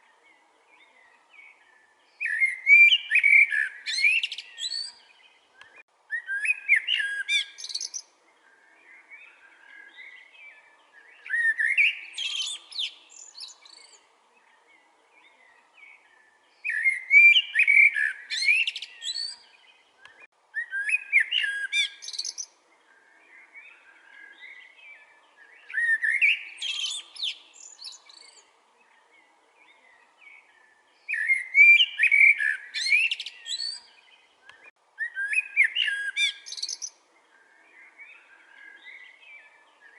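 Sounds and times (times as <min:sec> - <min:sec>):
blackbird singing: 0:00.0 - 0:39.9
faint birdsong: 0:00.0 - 0:39.9.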